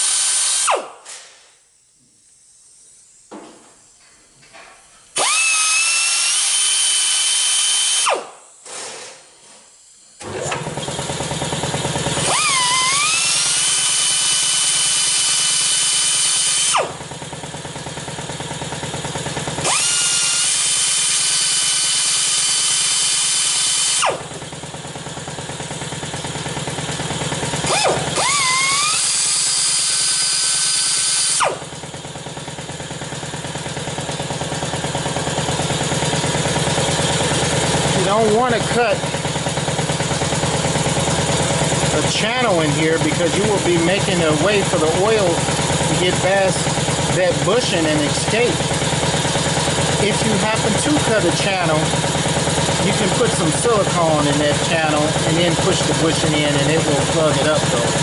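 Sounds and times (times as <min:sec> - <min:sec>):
rotary grinding tool whining: 0:05.2 - 0:08.3, 0:09.9 - 0:58.0.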